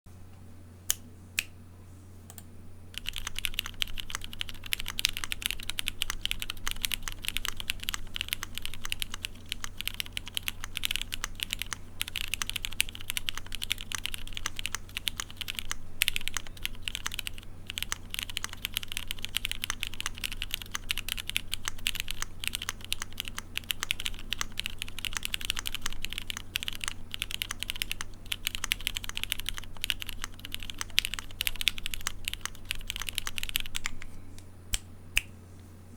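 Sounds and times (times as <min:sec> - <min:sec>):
mechanical keyboard typing: 0:03.0 - 0:34.0.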